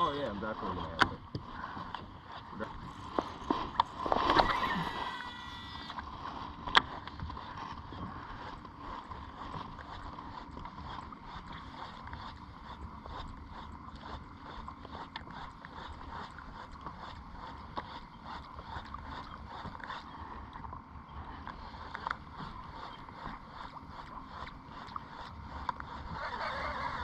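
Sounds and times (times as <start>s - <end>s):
faint water: 0.0s - 27.0s
fishing reel spool whirring: 0.0s - 27.0s
steady low hum: 0.0s - 27.0s
wind: 0.0s - 27.0s.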